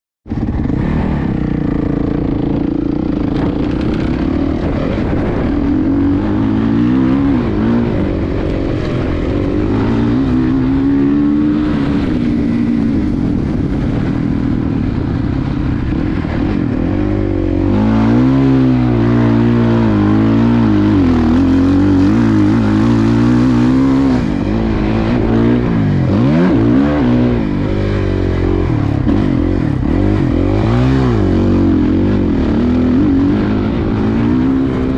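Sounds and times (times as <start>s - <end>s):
motocross bike engine revving: 0.3s - 34.9s.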